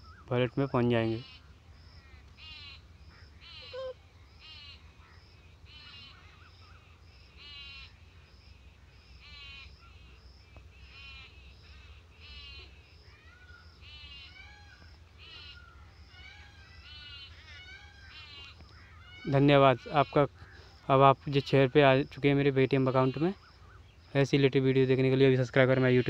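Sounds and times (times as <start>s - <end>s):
faint harsh bird calls: 0.0s - 26.0s.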